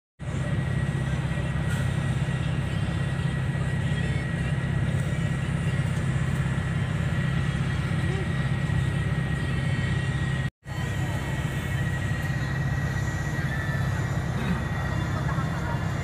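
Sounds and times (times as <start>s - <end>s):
bus engine droning: 0.2s - 16.0s.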